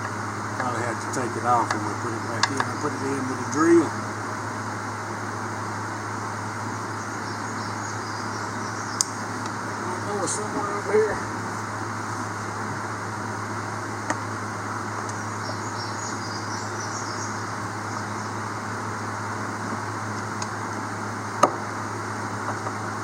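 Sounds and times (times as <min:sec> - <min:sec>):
mechanical hum and hiss: 0:00.0 - 0:23.0.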